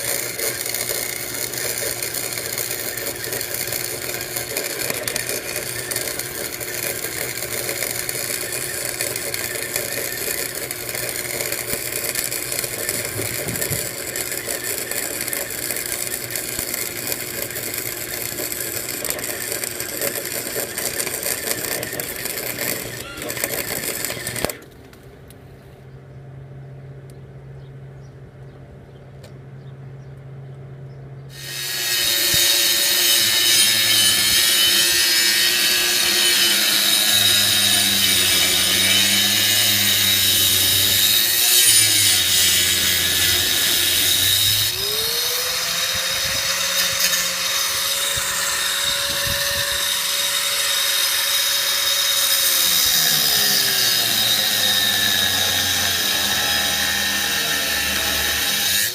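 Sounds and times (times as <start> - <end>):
motor tone: 0.0 - 24.7, 31.3 - 58.9
power tool cutting steel: 0.0 - 24.7, 31.3 - 58.9.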